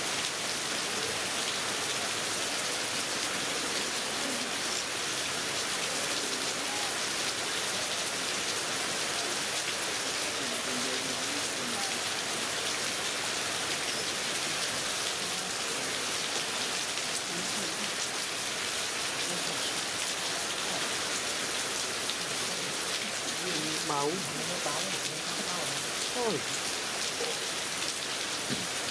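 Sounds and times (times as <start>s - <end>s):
heavy rain: 0.0s - 28.9s.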